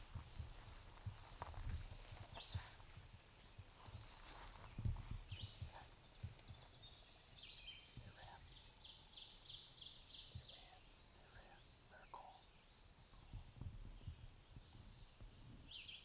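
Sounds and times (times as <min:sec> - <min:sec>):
soft bird calls: 0:00.0 - 0:16.0.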